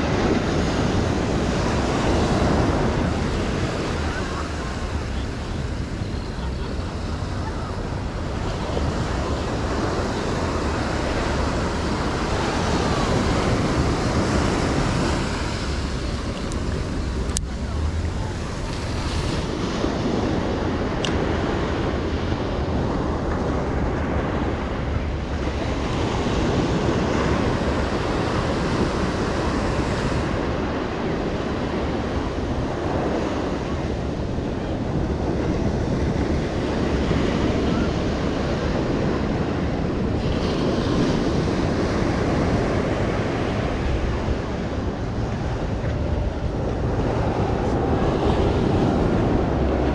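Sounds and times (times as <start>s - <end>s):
ocean surf washing onto beach: 0.0s - 49.9s
wind buffeting microphone: 0.0s - 49.9s.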